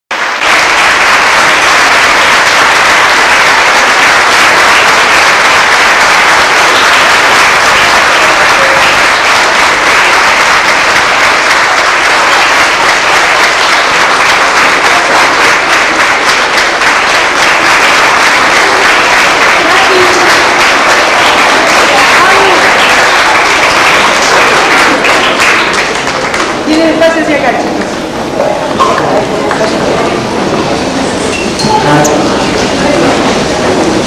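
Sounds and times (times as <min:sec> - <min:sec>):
audience applauding: 0:00.1 - 0:31.3, 0:32.0 - 0:34.0.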